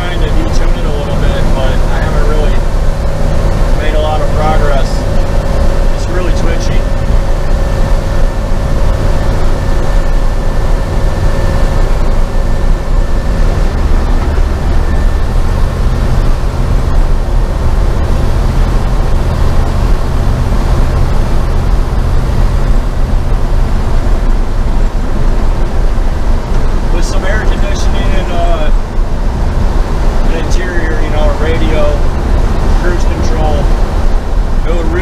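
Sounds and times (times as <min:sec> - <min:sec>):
engine drone in truck cab: 0:00.0 - 0:35.0
road noise: 0:00.0 - 0:35.0
thin steady whine: 0:00.0 - 0:35.0.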